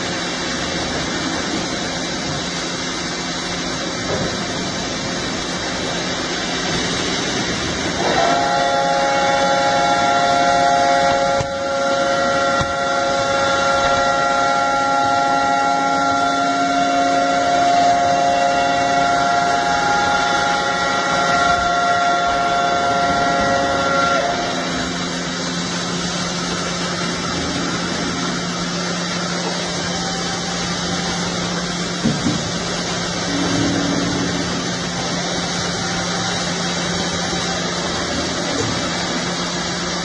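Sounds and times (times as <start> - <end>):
machinery whine: 0.0 - 40.0.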